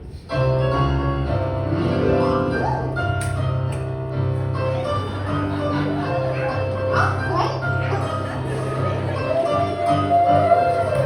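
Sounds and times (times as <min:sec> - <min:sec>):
piano music with bass line: 0:00.0 - 0:11.0.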